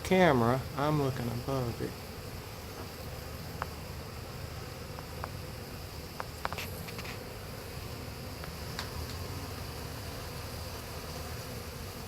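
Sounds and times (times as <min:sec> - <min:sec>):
honeybee swarm buzzing: 0:00.0 - 0:12.0.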